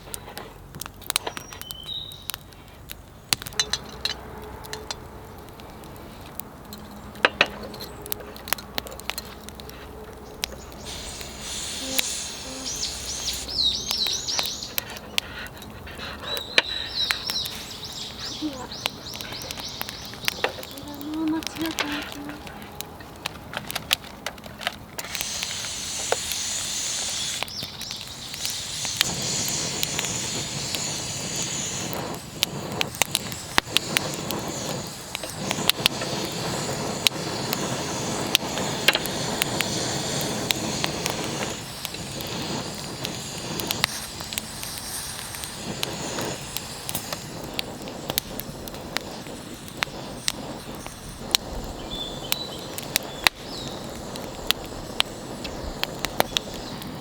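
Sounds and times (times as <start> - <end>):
sharp fire pops and snaps: 0.0 - 57.0
wood fire crackling: 0.0 - 57.0.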